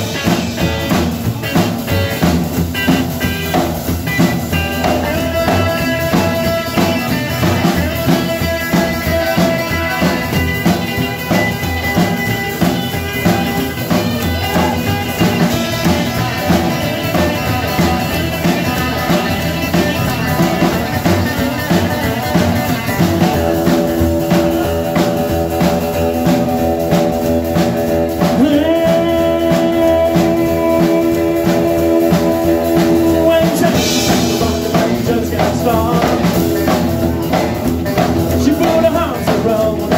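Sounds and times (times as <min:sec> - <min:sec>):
drum kit: 0:00.0 - 0:39.9
electric guitar: 0:00.0 - 0:39.9
person singing: 0:04.2 - 0:39.9.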